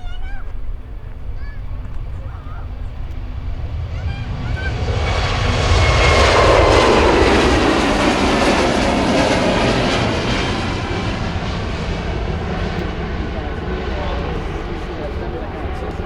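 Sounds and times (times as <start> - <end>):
jet airliner engine roar: 0.0 - 16.0.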